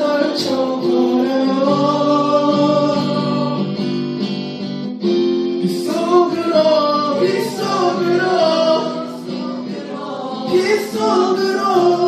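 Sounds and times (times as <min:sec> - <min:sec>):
group of voices singing: 0:00.0 - 0:03.8, 0:05.8 - 0:12.0
strummed acoustic guitar: 0:00.0 - 0:12.0.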